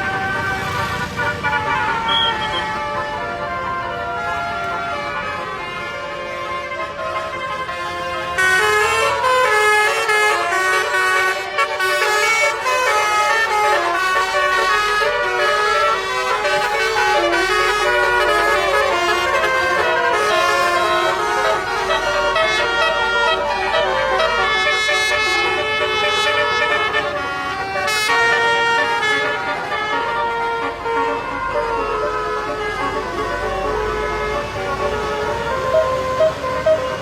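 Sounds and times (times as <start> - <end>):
multi-tone bus air horn tune: 0.0 - 37.0.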